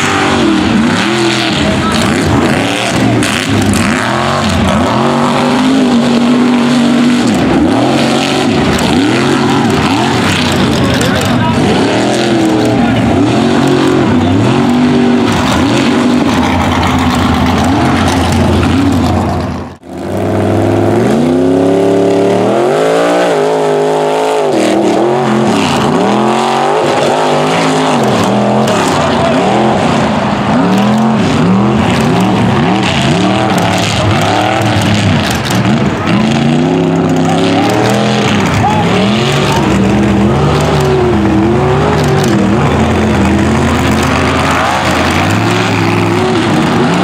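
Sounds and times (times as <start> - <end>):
truck engines revving: 0.0 - 47.0.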